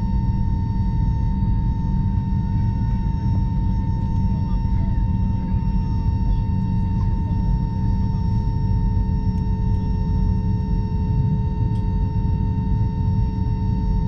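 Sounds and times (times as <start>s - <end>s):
airplane cabin rumble: 0.0s - 14.0s
constant whine: 0.0s - 14.0s.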